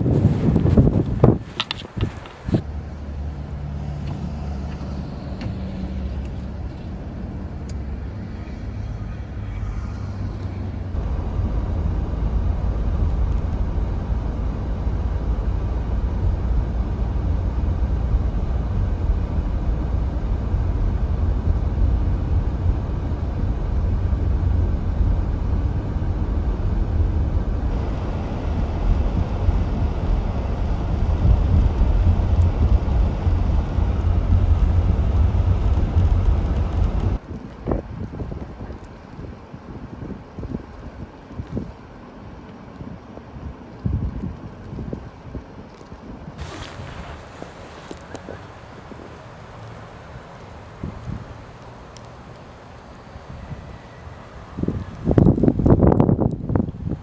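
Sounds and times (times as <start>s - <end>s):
vehicle and road noise rumble: 0.0s - 57.0s.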